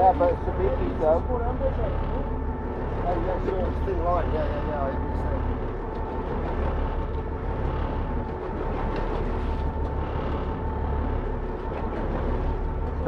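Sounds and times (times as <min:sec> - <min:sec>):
boat engine hum: 0:00.0 - 0:13.0.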